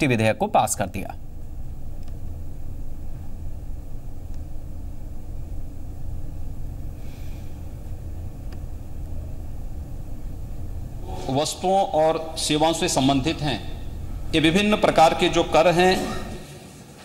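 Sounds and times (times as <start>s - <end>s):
steady low rumble: 0.0s - 16.6s.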